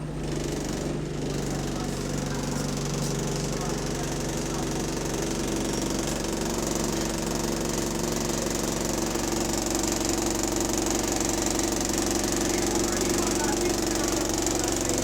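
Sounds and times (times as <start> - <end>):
bus engine running: 0.0 - 15.0
fast engine knocking: 0.0 - 15.0.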